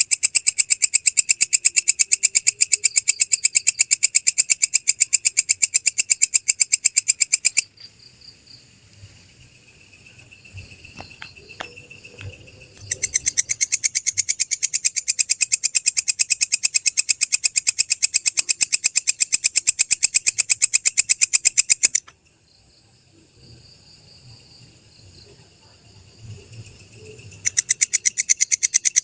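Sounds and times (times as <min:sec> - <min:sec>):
bush cricket ticking pulses: 0:00.0 - 0:29.0
bush cricket trilling: 0:00.0 - 0:29.0.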